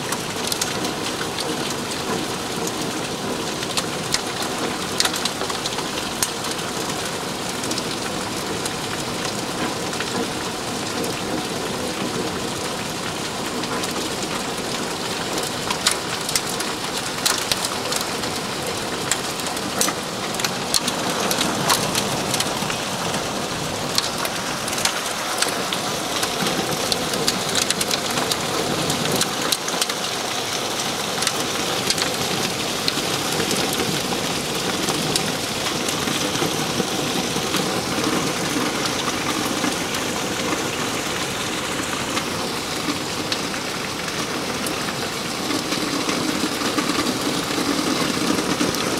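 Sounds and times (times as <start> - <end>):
hailstones ticking on hard surfaces: 0.0 - 48.9
heavy rain and hail hiss: 0.0 - 48.9.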